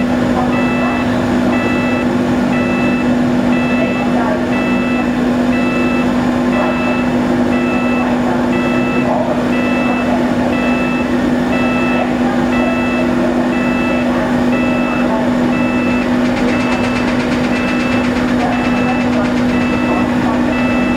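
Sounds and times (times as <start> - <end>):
ferry engines humming: 0.0 - 20.9
warning beeper: 0.0 - 20.9.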